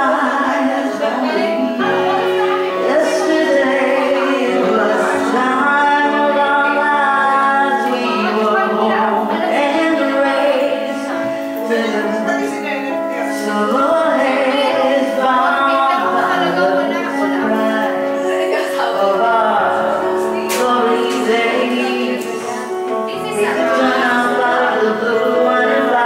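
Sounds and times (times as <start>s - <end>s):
karaoke backing track: 0.0s - 26.0s
woman singing into microphone: 0.0s - 26.0s.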